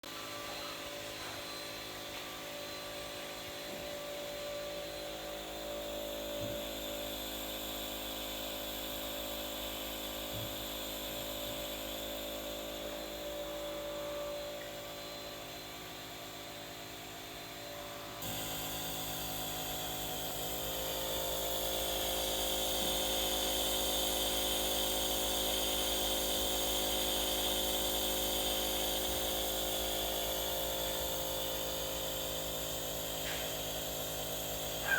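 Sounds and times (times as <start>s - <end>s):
nebulizer compressor humming: 1.7s - 17.4s, 18.2s - 34.9s.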